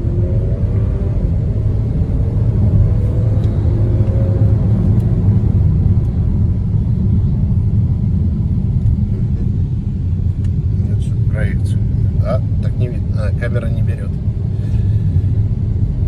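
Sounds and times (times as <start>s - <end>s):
engine and road rumble in cabin: 0.0s - 16.0s.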